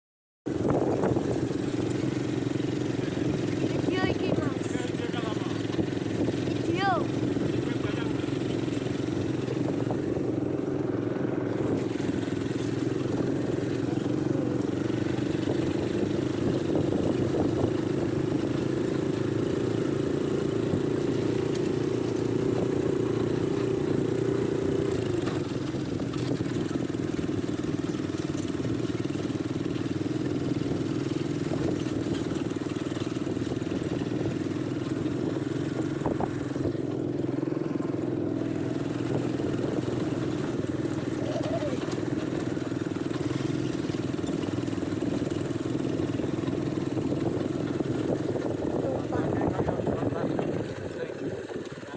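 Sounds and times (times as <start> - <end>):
atv engine running: 0.5 - 51.9.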